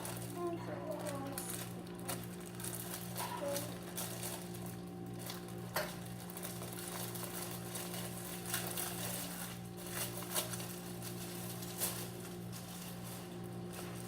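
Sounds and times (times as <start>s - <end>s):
low electrical hum: 0.0s - 14.0s
objects handled clicking and crinkling: 0.0s - 14.0s.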